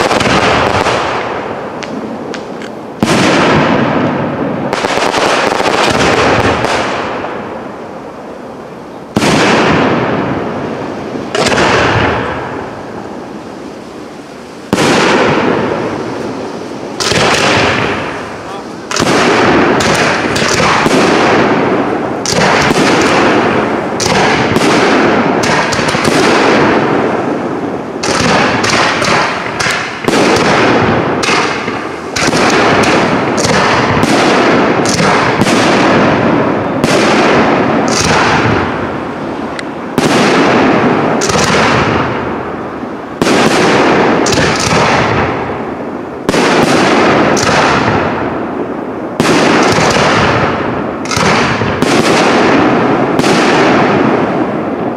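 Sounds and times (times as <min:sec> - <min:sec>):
firework shells bursting: 0:00.0 - 0:07.6, 0:09.1 - 0:54.8.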